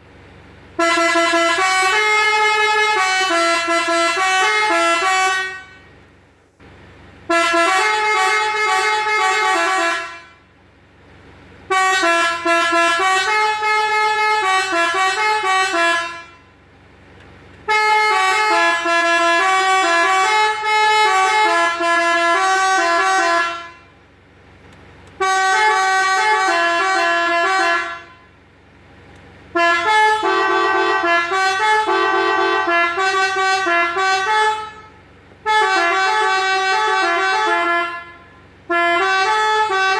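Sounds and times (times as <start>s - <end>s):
musical bus air horn: 0.6s - 6.0s, 7.2s - 10.6s, 11.6s - 16.6s, 17.6s - 24.1s, 25.1s - 28.5s, 29.5s - 39.9s.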